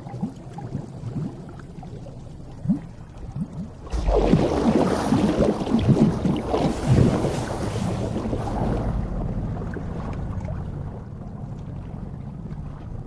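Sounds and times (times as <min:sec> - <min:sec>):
ocean water sloshing: 0:00.0 - 0:13.0
underwater rumble: 0:00.0 - 0:13.0.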